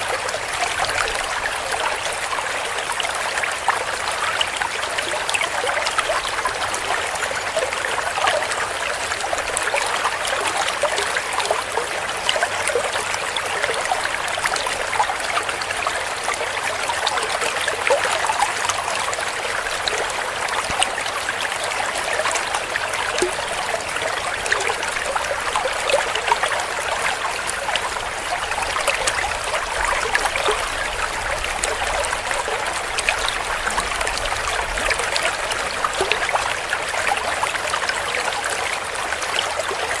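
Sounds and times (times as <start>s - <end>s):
stream trickling over stones: 0.0s - 40.0s.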